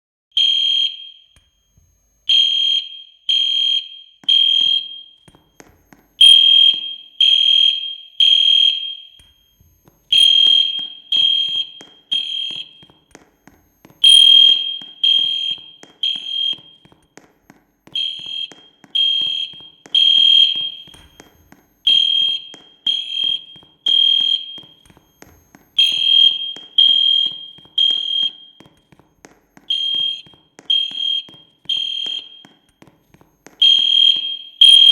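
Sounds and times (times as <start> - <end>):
fire alarm beeping: 0.3 - 34.9.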